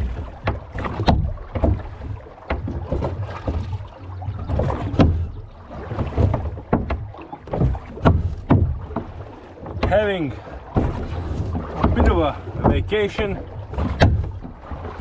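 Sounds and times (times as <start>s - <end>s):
oars knocking in metal oarlocks: 0.0s - 15.0s
water rumbling against hull: 0.0s - 15.0s.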